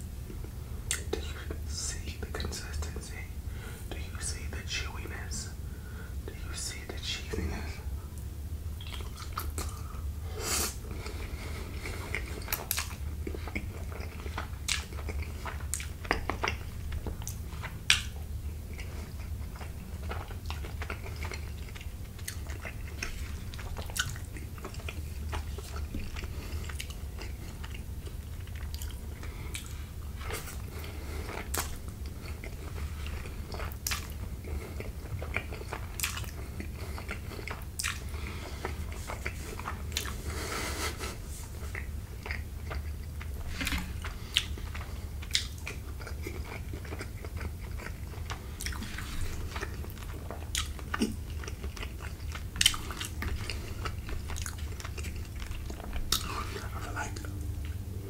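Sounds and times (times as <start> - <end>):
person chewing with mouth smacks: 0.2 - 3.2, 8.1 - 58.0.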